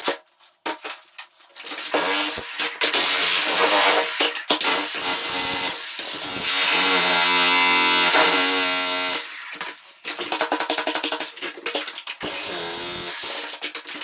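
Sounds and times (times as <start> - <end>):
demolition hammer chiselling concrete: 1.8 - 11.3, 12.2 - 14.0.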